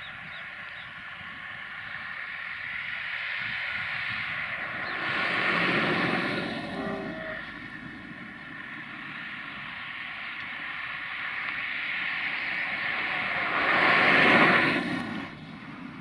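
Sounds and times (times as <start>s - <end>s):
vehicle passing: 1.5s - 15.9s.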